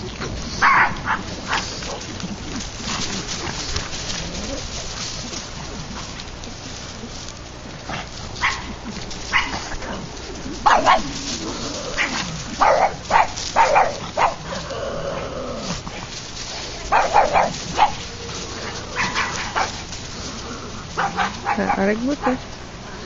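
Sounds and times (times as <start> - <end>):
small dogs barking: 0.0 - 23.0.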